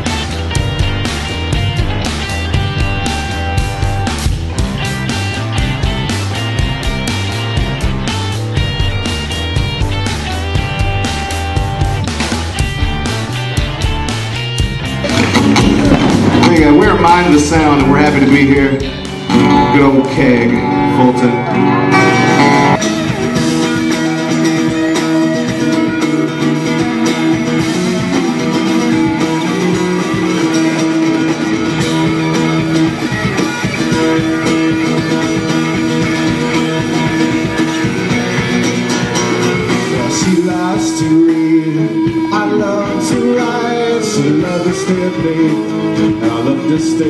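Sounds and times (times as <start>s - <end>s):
electric guitar: 0.0s - 47.0s
live rock band playing: 0.0s - 47.0s.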